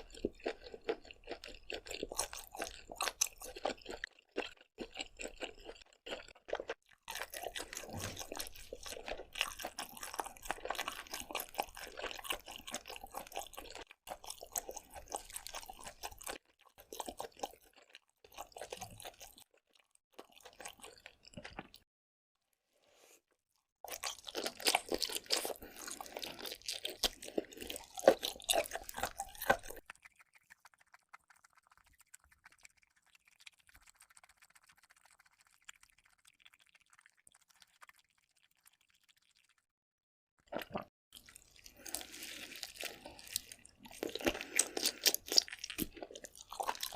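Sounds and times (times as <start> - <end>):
wet chewing and crunching: 0.0 - 21.9, 23.8 - 39.7, 40.4 - 46.9.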